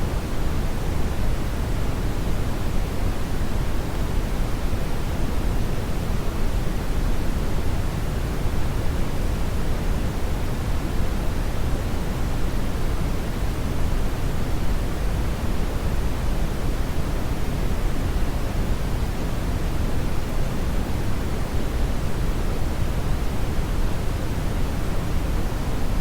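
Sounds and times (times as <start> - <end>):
brown noise hiss: 0.0 - 26.0.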